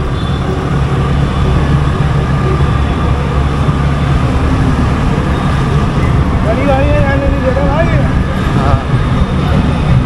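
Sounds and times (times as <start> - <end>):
road and wind noise: 0.0 - 10.0
vehicle engine humming: 0.0 - 10.0.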